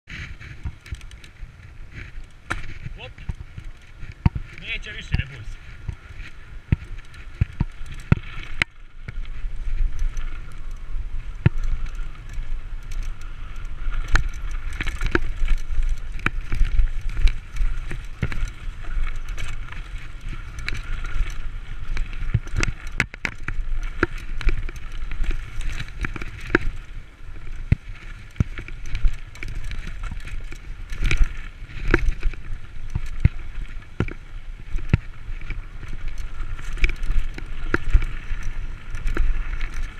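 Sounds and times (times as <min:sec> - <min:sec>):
bike knocking and rattling: 0:00.1 - 0:39.9
bike tyres rumbling on dirt: 0:00.1 - 0:39.9.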